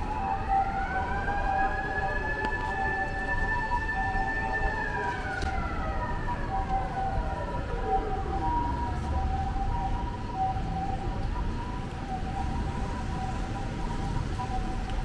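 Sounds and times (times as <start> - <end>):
low street rumble: 0.0 - 15.0
two-tone siren: 0.0 - 15.0.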